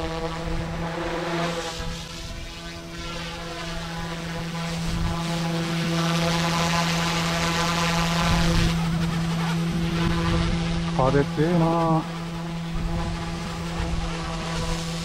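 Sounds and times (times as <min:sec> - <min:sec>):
rc helicopter whine: 0:00.0 - 0:15.0
wind on microphone: 0:00.0 - 0:15.0.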